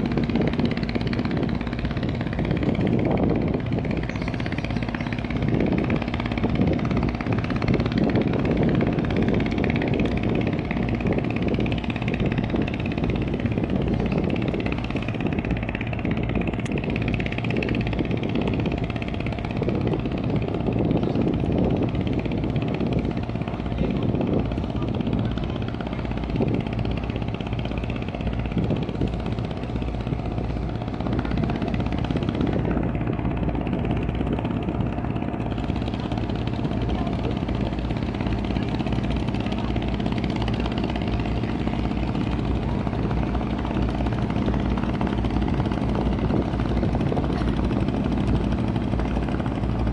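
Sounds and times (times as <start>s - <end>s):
boat engine droning: 0.0s - 49.9s.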